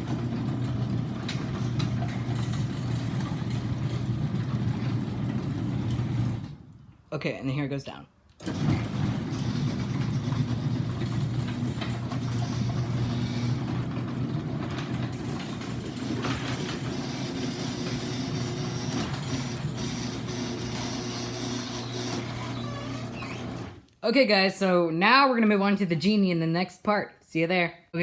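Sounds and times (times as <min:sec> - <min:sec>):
garage door opener motor hum: 0:00.0 - 0:07.0, 0:08.4 - 0:23.9
garage door rattling: 0:00.0 - 0:07.0, 0:08.4 - 0:23.9.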